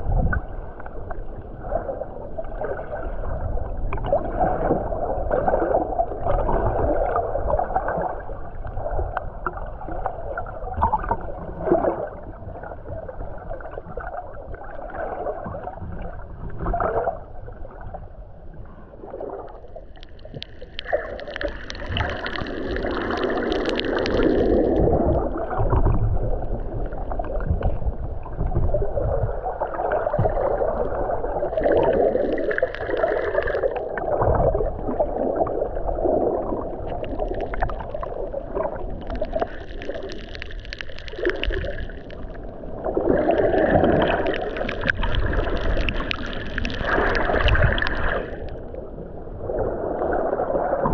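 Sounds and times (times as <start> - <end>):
underwater churning and gurgling water: 0.0 - 50.9.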